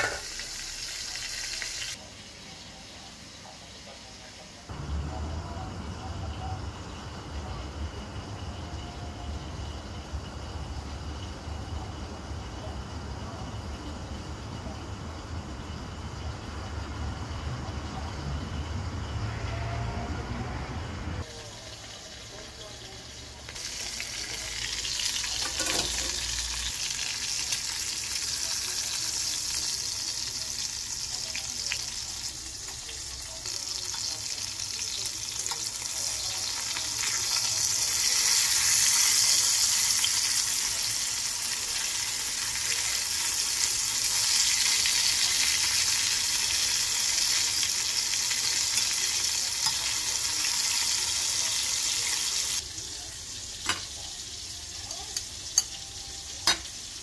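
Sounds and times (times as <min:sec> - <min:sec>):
shrimp deep-frying in oil: 0:00.0 - 0:20.4, 0:21.2 - 0:57.0.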